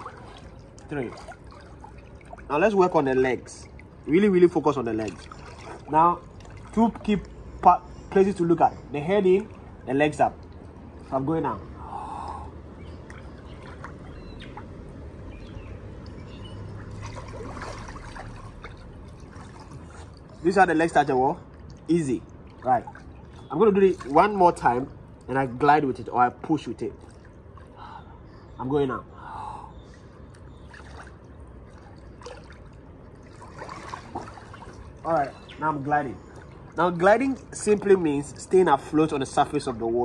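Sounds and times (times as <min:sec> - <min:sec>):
faint small splashes: 0:00.0 - 0:07.6, 0:09.2 - 0:25.6, 0:26.2 - 0:28.5, 0:29.7 - 0:39.8
pool water sloshing: 0:00.0 - 0:29.1, 0:29.7 - 0:40.0
low steady hum: 0:00.0 - 0:40.0.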